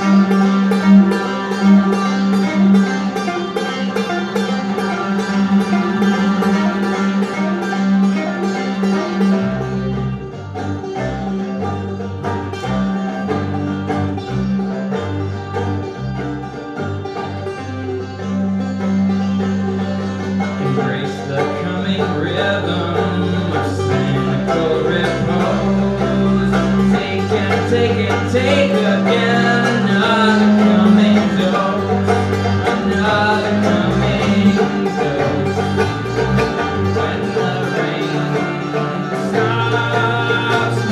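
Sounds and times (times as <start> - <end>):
banjo picking: 0.0 - 40.9
bowed double bass: 0.0 - 40.9.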